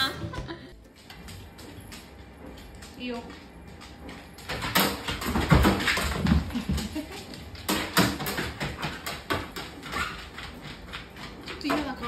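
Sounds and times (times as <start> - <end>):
paws clicking on treadmill: 0.4 - 12.0.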